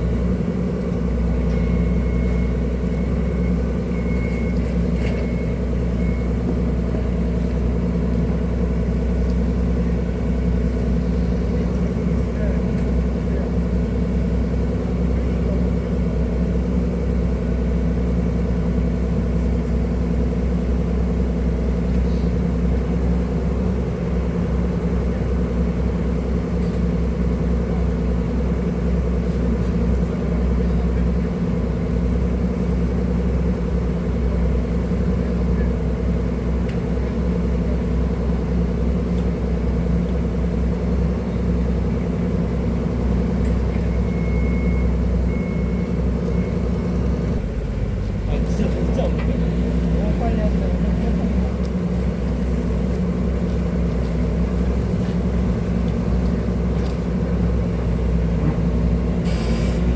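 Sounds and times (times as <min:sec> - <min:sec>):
diesel engine low rumble: 0:00.0 - 0:59.9.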